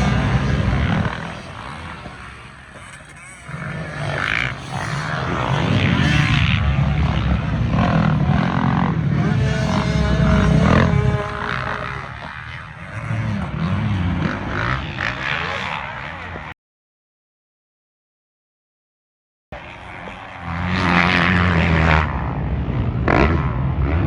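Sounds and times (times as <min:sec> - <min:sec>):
racing engines revving: 0:00.0 - 0:16.5, 0:19.6 - 0:24.0.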